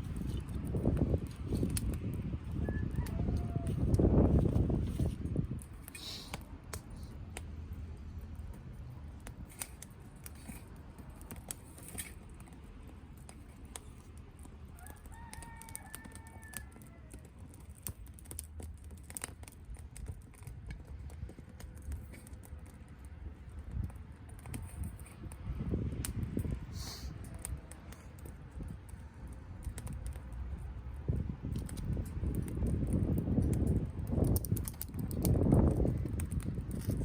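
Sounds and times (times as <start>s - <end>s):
fire crackling and popping: 0.0s - 37.0s
low fire rumble: 0.0s - 37.0s.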